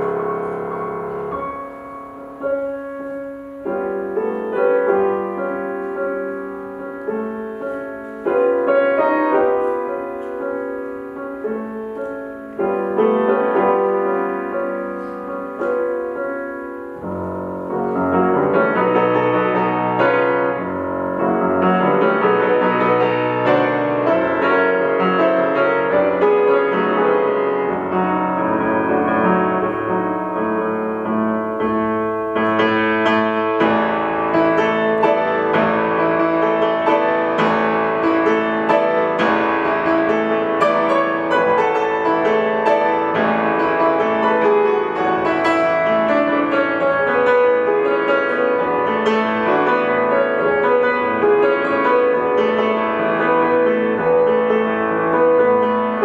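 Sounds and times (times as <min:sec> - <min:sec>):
classical piano music: 0:00.0 - 0:56.0.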